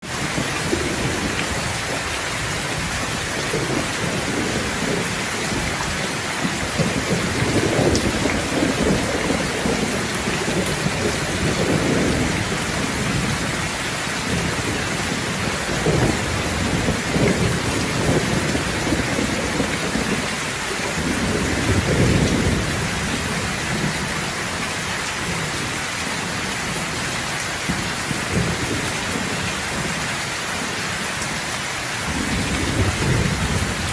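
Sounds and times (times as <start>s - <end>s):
thunder rumbling: 0.0s - 31.4s, 32.0s - 33.9s
rain falling: 0.0s - 33.9s.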